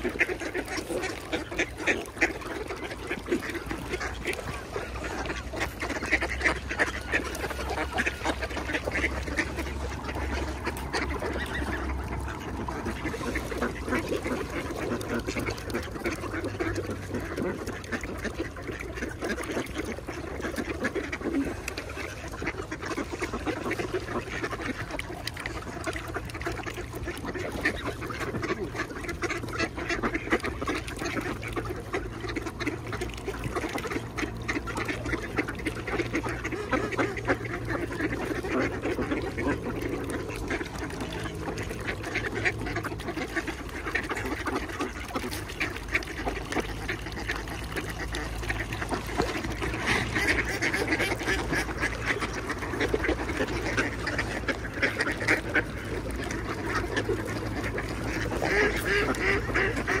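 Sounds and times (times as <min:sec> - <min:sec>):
flock of ducks quacking: 0:00.0 - 1:00.0.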